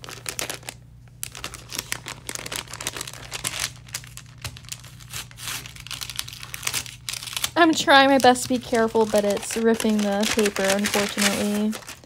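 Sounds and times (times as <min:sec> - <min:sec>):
paper bag crinkling: 0:00.0 - 0:12.0
paper tearing: 0:01.3 - 0:12.0.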